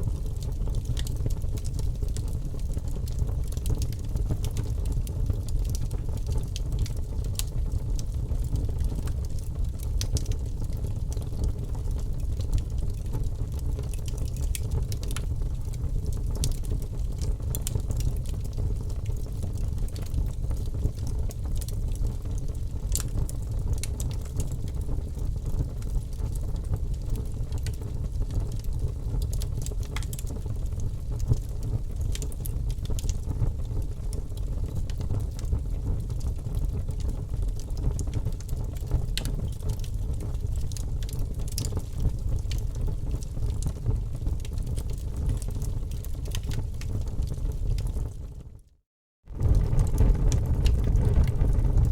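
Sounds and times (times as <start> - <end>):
burning wood crackling and popping: 0.0 - 48.4, 49.4 - 51.9
fire low rumble: 0.0 - 48.4, 49.3 - 51.9.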